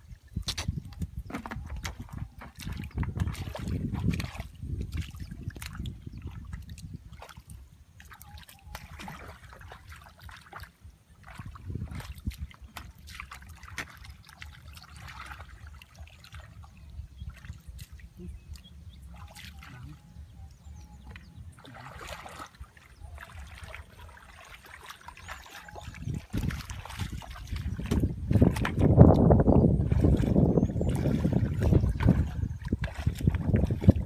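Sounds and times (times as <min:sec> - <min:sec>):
muddy water sloshing and splashing: 0:00.0 - 0:34.0.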